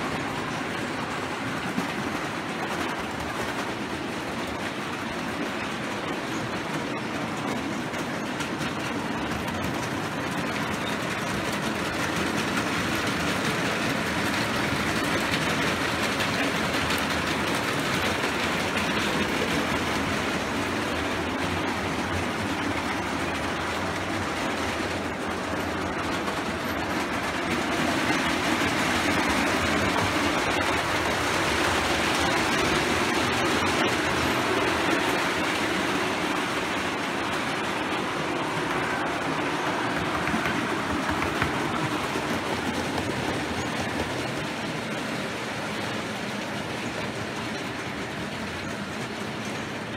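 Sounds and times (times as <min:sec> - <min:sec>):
model train wheels rumbling on rails: 0:00.0 - 0:49.9.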